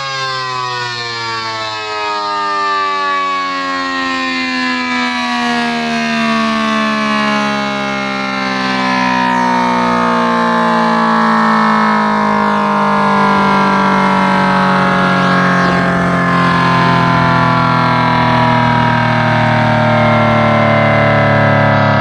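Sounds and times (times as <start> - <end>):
warning siren steady tone: 0.0 - 22.0.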